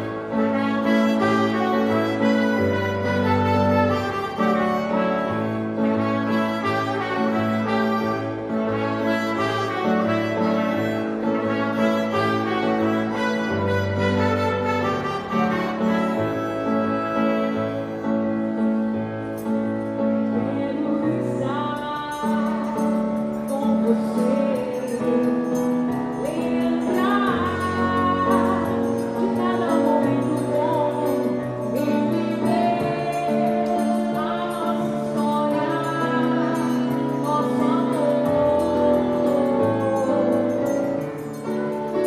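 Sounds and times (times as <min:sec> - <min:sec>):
woman singing: 0:00.0 - 0:18.3, 0:20.1 - 0:42.0
live band music: 0:00.0 - 0:42.0.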